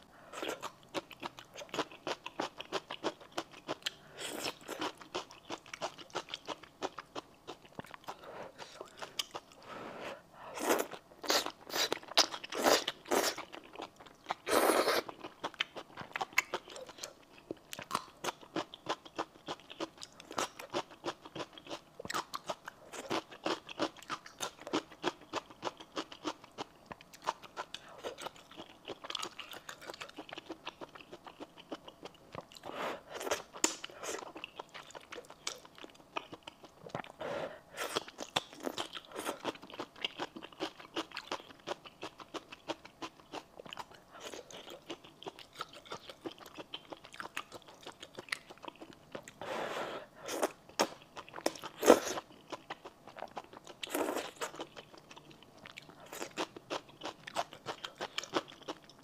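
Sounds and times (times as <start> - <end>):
chewing and crunching: 0.4 - 9.6, 10.5 - 37.2, 37.8 - 49.4, 50.2 - 59.0.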